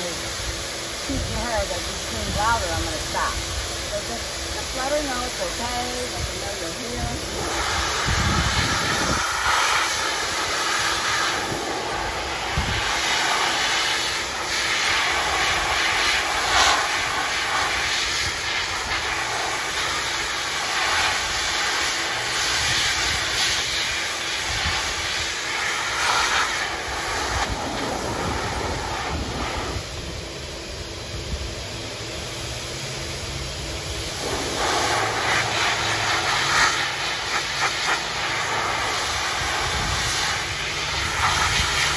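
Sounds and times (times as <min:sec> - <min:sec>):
dog dryer blasting air: 0:00.0 - 0:41.9.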